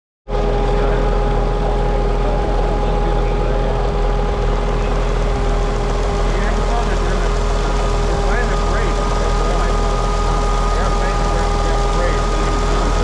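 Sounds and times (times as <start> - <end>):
engine idling: 0.3 - 13.0
high whine: 0.3 - 13.0.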